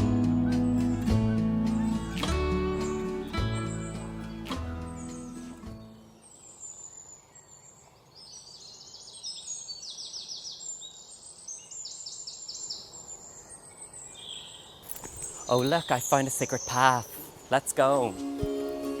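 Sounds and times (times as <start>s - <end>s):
small birds trilling chirps: 0.0s - 18.3s
faint outdoor hiss: 0.0s - 19.0s.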